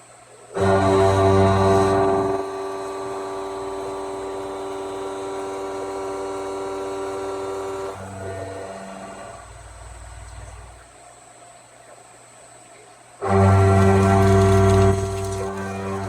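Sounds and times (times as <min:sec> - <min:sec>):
low hum: 0:00.6 - 0:10.8, 0:13.2 - 0:16.0
milling machine whine: 0:00.6 - 0:10.9, 0:13.2 - 0:16.0.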